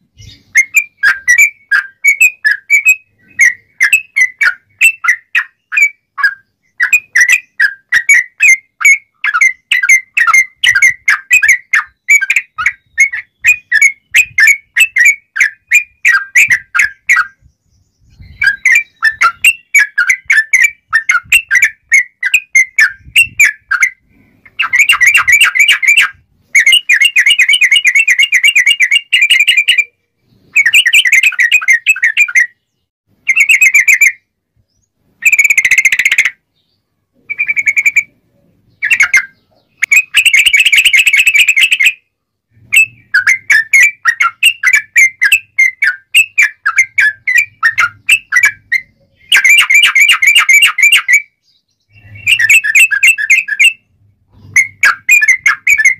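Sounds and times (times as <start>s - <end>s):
bird singing bubbling whistles: 0.0s - 34.3s, 37.3s - 42.0s, 42.6s - 55.9s.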